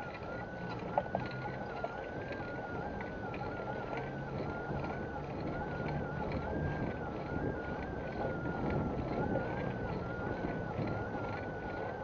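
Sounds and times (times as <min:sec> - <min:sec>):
bicycle rolling and rattling: 0:00.0 - 0:12.0.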